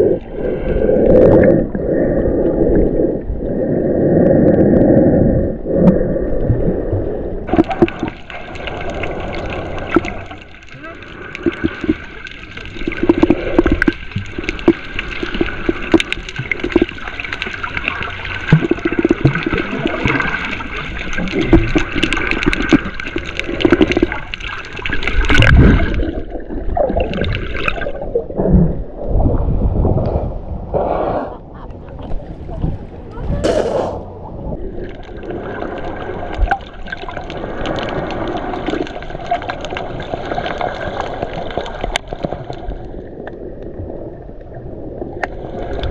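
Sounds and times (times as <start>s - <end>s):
water sloshing and gurgling: 0.0s - 45.9s.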